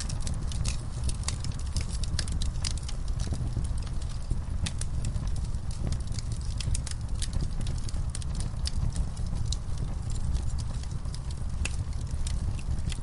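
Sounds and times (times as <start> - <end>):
roar of fire flames: 0.0 - 13.0
wood fire crackling and popping: 0.0 - 13.0.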